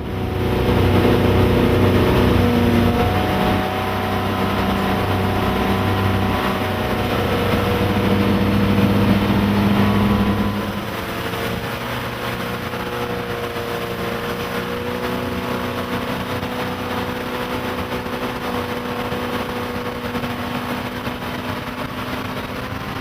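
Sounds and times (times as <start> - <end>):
boat engines running: 0.0 - 23.0
water and wind hiss: 0.0 - 23.0.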